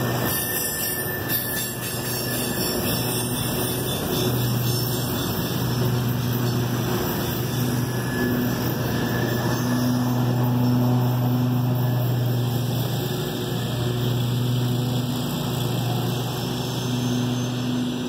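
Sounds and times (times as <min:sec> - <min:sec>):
mower engine running: 0:03.0 - 0:18.0.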